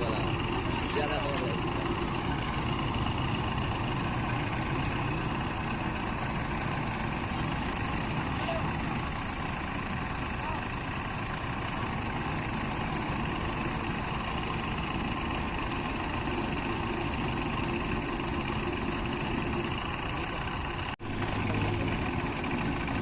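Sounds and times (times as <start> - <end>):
heavy engine idling: 0.0 - 23.0.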